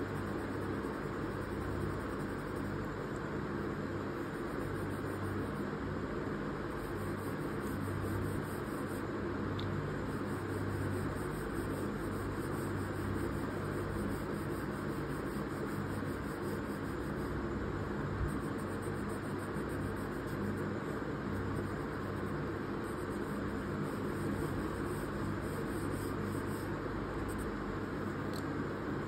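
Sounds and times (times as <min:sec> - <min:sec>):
steady hiss with low hum: 0:00.0 - 0:29.0.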